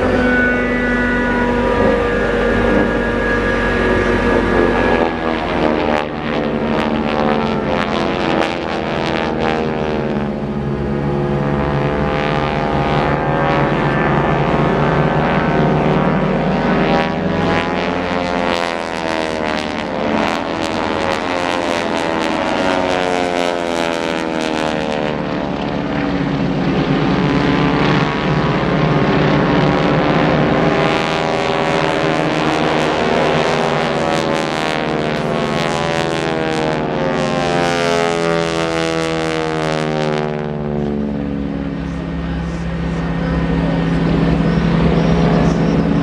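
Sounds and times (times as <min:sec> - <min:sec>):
propeller planes droning: 0:00.0 - 0:46.0.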